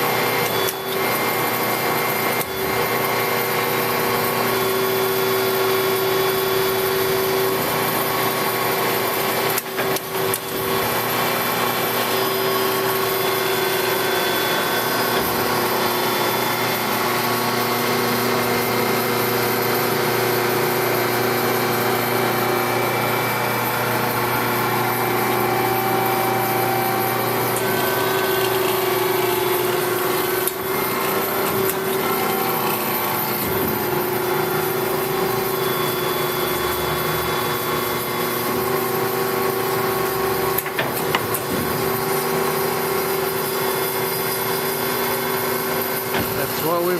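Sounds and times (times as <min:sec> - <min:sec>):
bandsaw sawing: 0:00.0 - 0:46.9.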